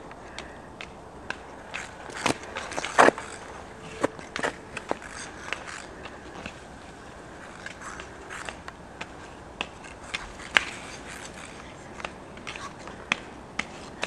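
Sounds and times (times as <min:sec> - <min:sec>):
ice skate blades scraping: 0:00.2 - 0:14.0.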